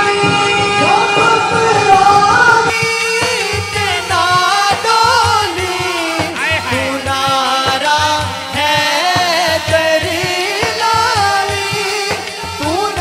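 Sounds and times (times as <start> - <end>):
rhythmic backing: 0.0 - 13.0.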